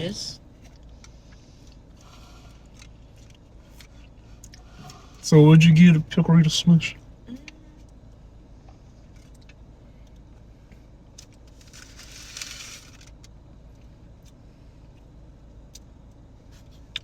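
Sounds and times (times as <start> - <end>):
low rumble inside a car: 0.0 - 17.0.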